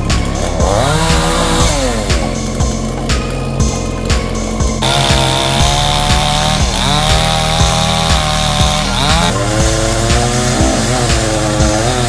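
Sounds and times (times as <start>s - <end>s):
chainsaw cutting tree: 0.0s - 4.2s, 4.8s - 12.0s.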